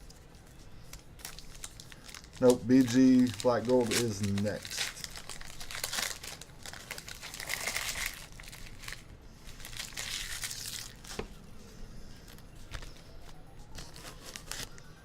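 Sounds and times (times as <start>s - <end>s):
plastic wrapping crinkling: 0.0s - 11.4s, 12.1s - 15.0s.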